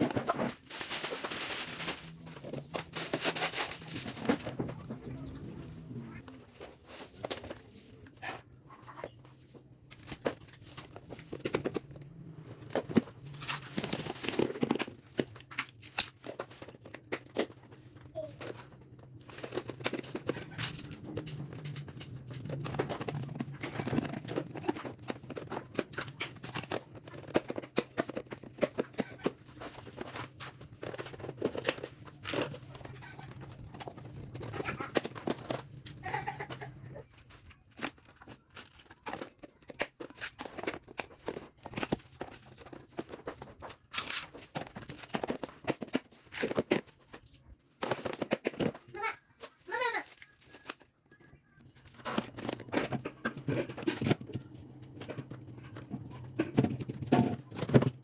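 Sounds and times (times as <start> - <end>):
objects being handled: 0.0 - 58.0.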